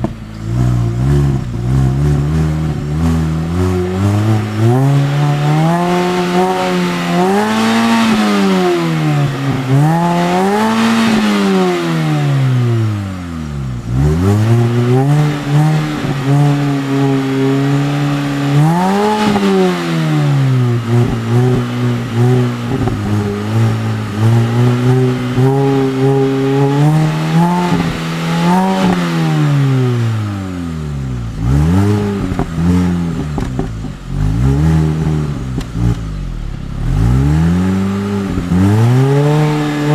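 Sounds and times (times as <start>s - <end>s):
car engine idling: 0.0s - 39.9s
car engine revving: 0.0s - 39.9s.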